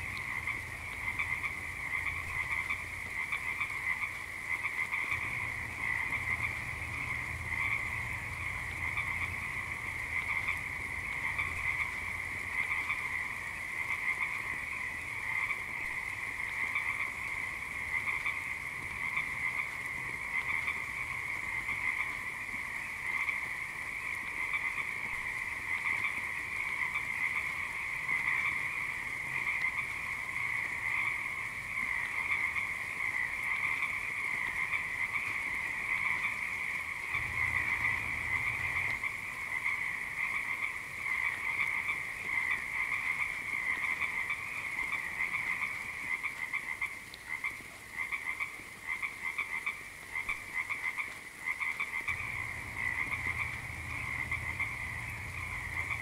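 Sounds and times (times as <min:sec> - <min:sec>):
chorus of frogs croaking: 0:00.0 - 0:56.0.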